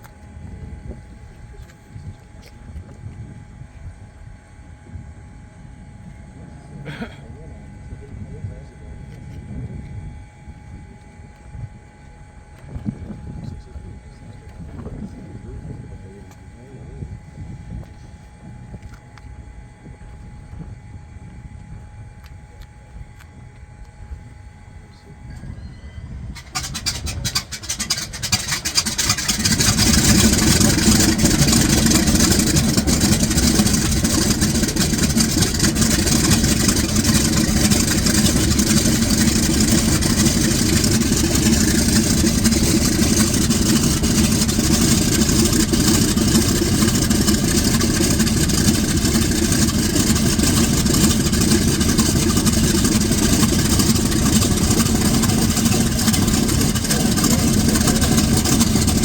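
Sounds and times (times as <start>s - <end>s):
radial aircraft engine starting: 0.0s - 59.0s.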